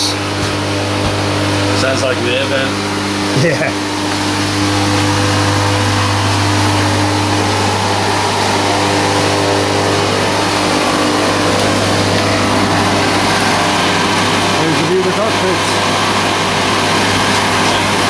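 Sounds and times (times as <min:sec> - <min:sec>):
air vent blower drone: 0:00.0 - 0:18.0.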